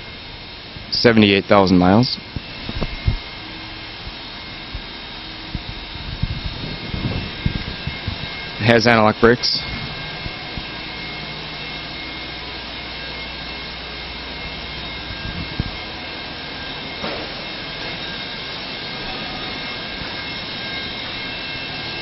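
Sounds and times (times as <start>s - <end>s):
mechanical drone with whines: 0.0s - 22.0s.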